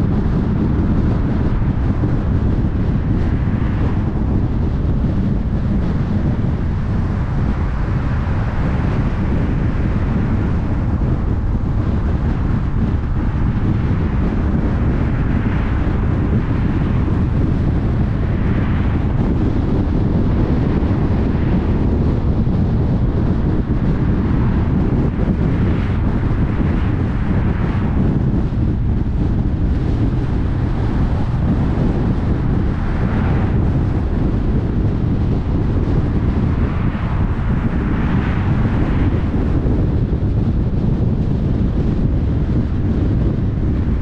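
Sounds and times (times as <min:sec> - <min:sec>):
road and wind noise: 0:00.0 - 0:44.0.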